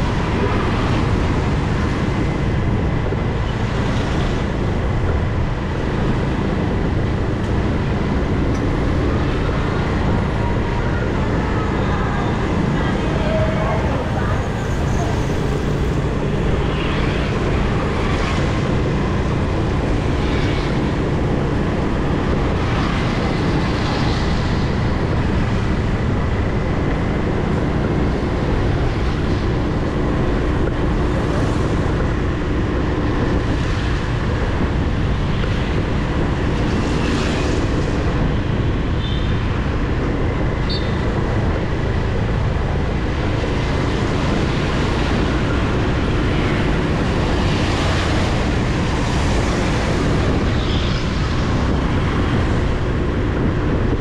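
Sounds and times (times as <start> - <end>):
street traffic: 0.0 - 54.0
wind buffeting microphone: 0.0 - 54.0.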